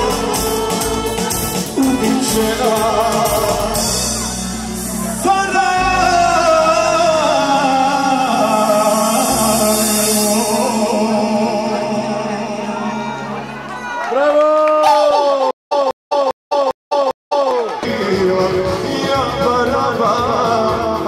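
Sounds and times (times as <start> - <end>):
man singing with vibrato: 0.0 - 13.5, 15.0 - 21.0
amplified band accompaniment: 0.0 - 14.1, 17.8 - 21.0.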